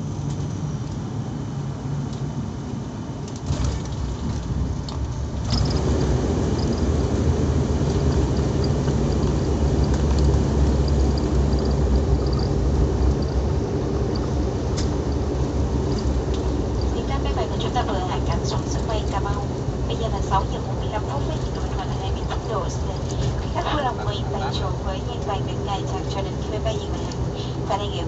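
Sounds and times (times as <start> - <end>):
aircraft engine and airflow drone: 0.0 - 28.0.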